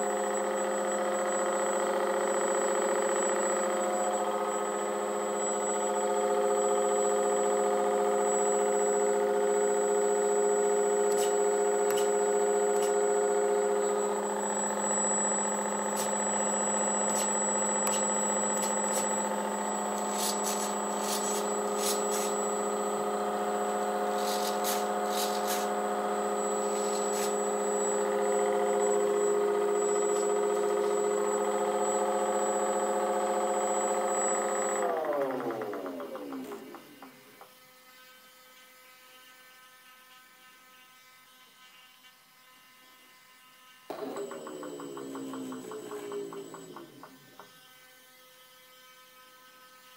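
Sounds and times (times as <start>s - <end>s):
electric motor and propeller hum: 0.0s - 37.7s, 43.9s - 48.1s.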